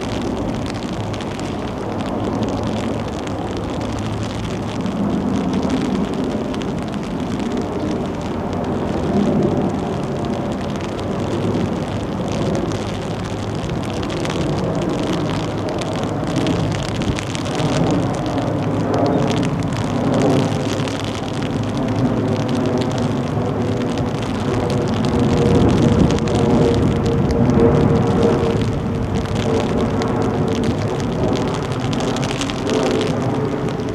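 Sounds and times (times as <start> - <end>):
rain: 0.0 - 33.9
wind gusts: 0.0 - 33.9.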